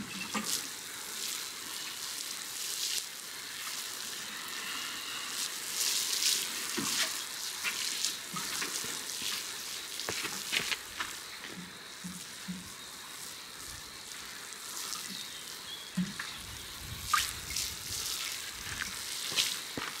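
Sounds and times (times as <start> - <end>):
water pouring from watering can: 0.0 - 20.0.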